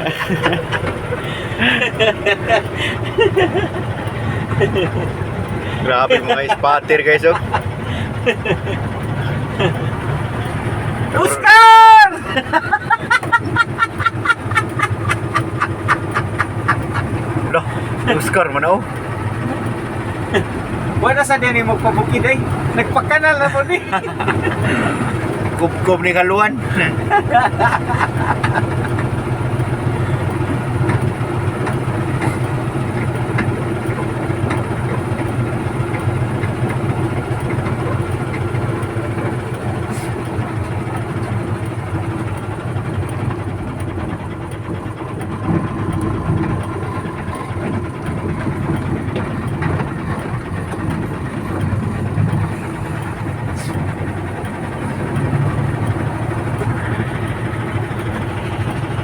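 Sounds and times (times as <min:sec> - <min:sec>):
backhoe diesel engine running: 0:00.0 - 0:59.0.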